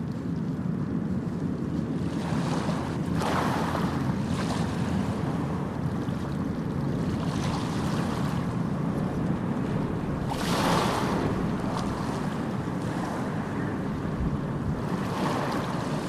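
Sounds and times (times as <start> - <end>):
sea waves washing on sand: 2.0 - 16.0
wave breaking: 2.2 - 16.0.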